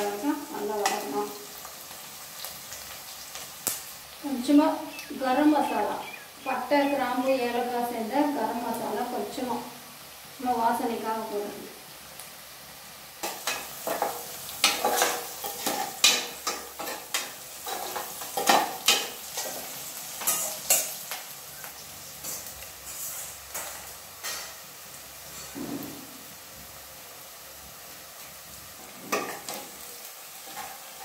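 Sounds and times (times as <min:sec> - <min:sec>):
onions sizzling in oil: 0:00.0 - 0:31.0.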